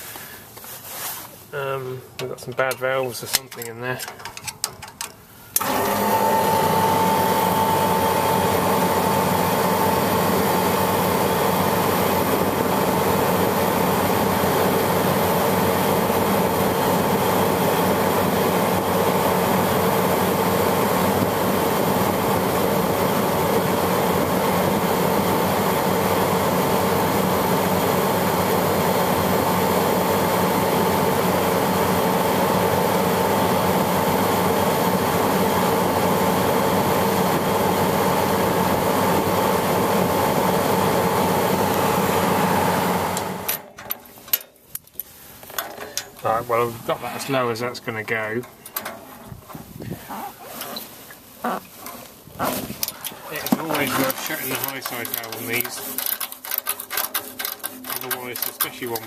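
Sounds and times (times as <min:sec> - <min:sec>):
refrigeration compressor humming: 0:05.2 - 0:59.0.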